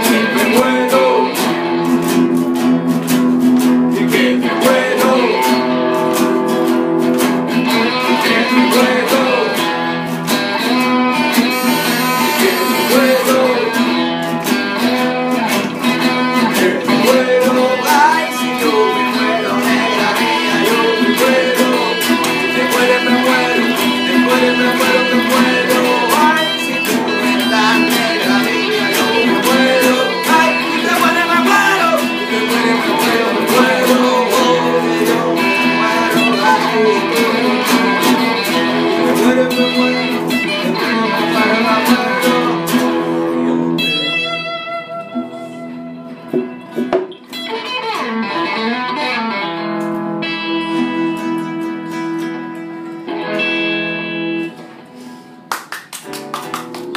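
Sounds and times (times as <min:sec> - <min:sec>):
guitars strumming and picking: 0:00.0 - 0:56.9.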